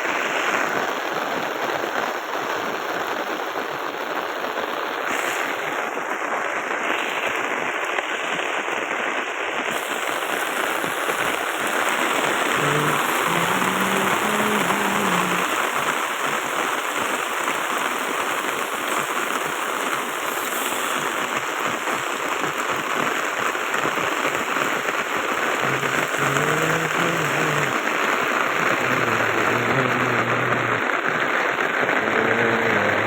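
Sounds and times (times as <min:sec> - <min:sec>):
rain hissing on surfaces: 0:00.0 - 0:33.0.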